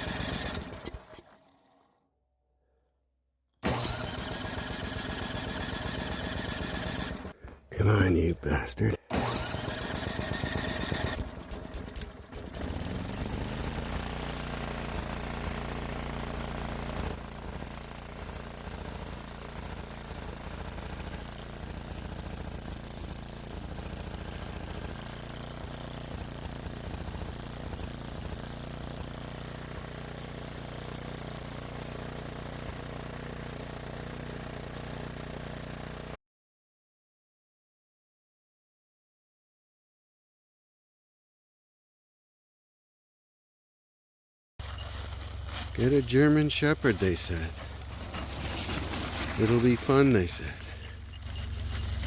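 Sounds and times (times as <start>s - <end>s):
snowblower engine running: 0.0s - 2.0s, 3.6s - 36.2s, 44.6s - 52.0s.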